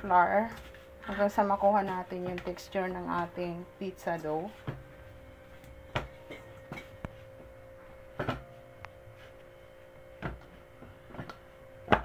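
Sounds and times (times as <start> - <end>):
dough kneading thuds: 0.0 - 9.4, 10.0 - 12.0.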